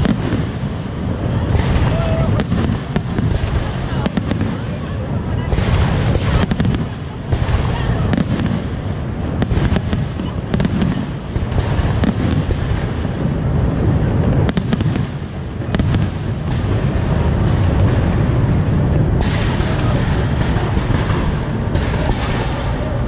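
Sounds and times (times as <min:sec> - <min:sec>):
fireworks booming: 0:00.0 - 0:23.0
fireworks crackling pops: 0:00.0 - 0:23.0.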